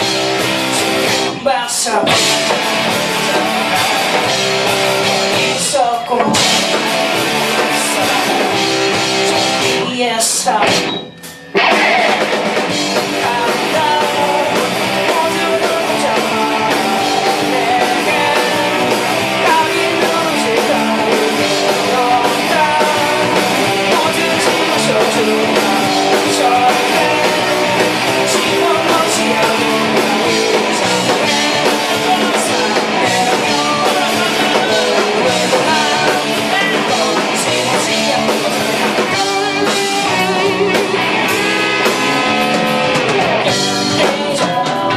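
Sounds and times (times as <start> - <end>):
drum kit: 0.0 - 44.9
electric guitar: 0.0 - 44.9.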